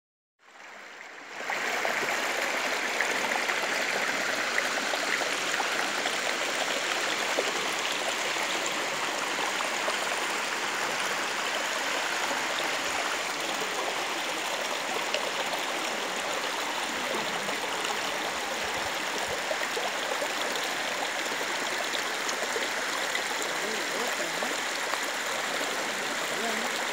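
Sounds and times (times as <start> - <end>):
waterfall splashing over rocks: 0.6 - 26.9.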